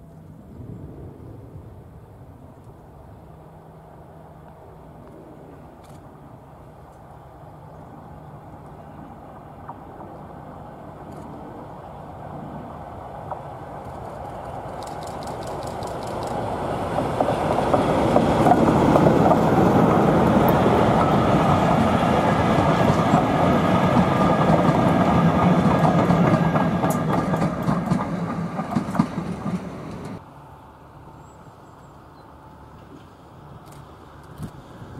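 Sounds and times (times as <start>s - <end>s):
diesel locomotive engine: 0.0s - 34.9s
train wheels on rails: 4.4s - 30.3s, 32.3s - 34.9s.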